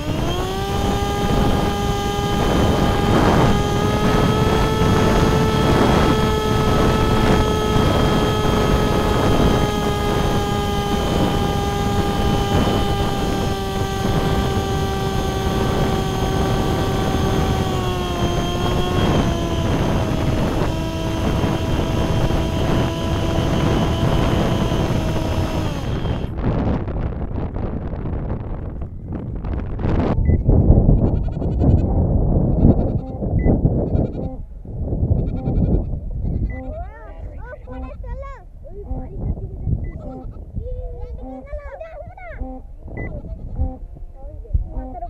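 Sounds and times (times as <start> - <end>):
electric motor and propeller whining: 0.0 - 34.5, 35.1 - 38.1, 38.8 - 45.0
rumbling wind noise: 0.0 - 45.0.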